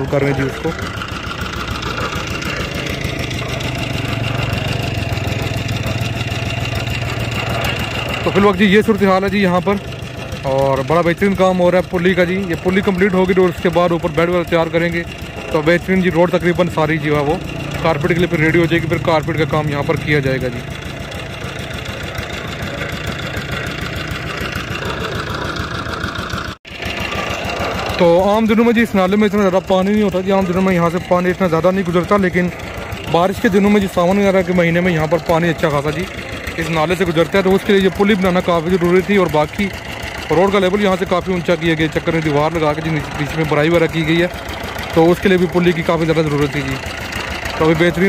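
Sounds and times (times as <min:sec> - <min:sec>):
machine engine chugging: 0:00.0 - 0:48.0.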